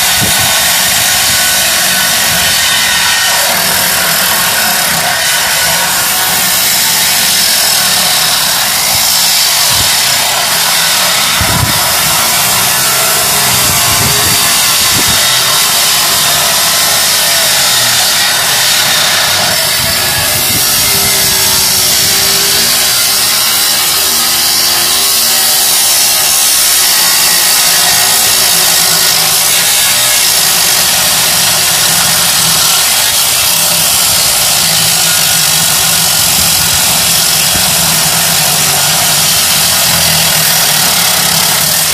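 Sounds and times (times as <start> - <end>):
power tool cutting metal: 0.0 - 41.9.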